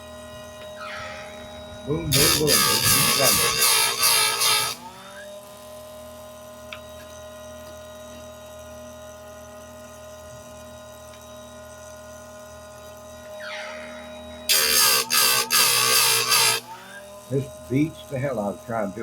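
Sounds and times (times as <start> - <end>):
sharpening machine motor humming: 0.0 - 19.0.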